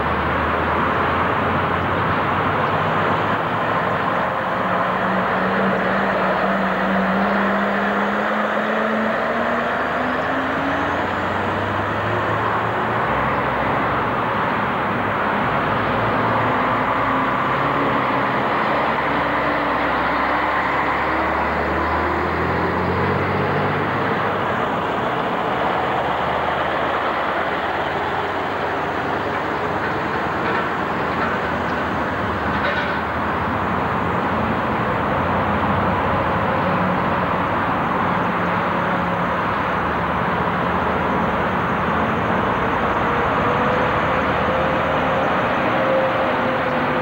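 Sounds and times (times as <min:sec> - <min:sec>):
lorry diesel engines pulling away: 0:00.0 - 0:47.0.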